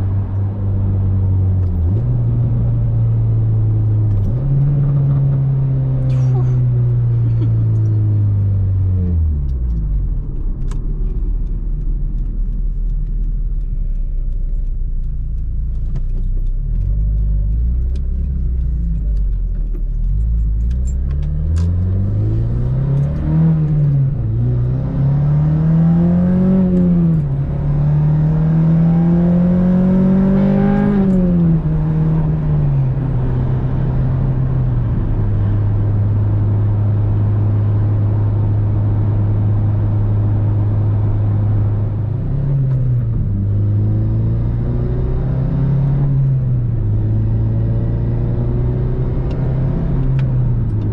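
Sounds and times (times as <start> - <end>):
car engine revving while driving: 0.0 - 50.9.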